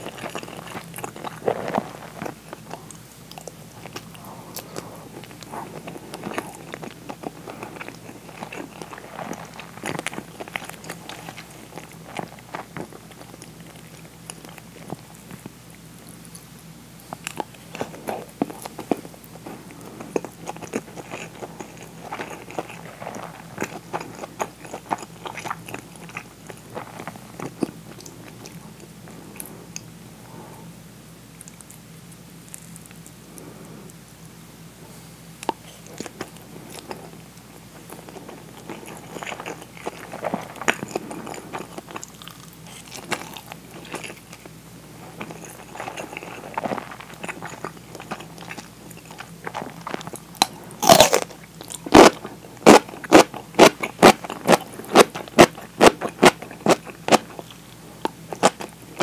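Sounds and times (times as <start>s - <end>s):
person chewing: 0.0s - 30.7s, 31.3s - 59.0s
faint steady hum: 0.0s - 59.0s.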